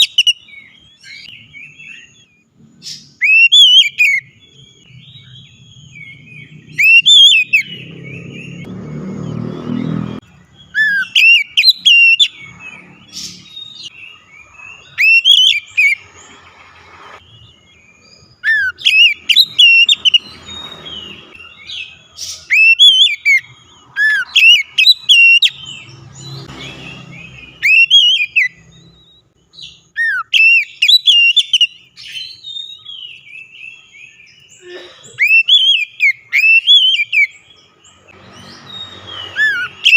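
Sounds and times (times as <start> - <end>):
bird singing whistled phrases: 0.0 - 8.6, 10.6 - 16.0, 17.5 - 25.7, 27.4 - 34.6, 35.2 - 37.4, 38.4 - 39.9.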